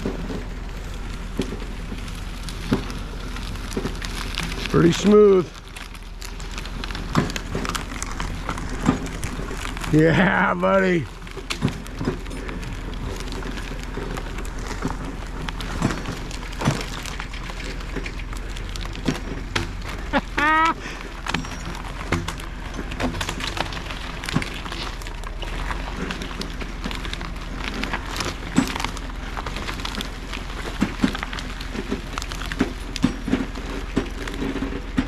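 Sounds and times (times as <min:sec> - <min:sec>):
tractor engine running: 0:00.0 - 0:35.0
wood and brush cracking: 0:00.0 - 0:35.0.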